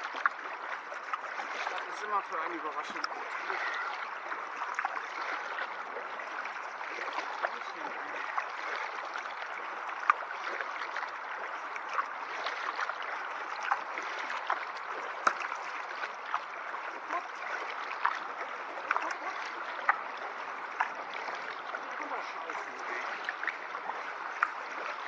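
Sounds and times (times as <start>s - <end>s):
kayak paddle splashing water: 0.0s - 25.0s.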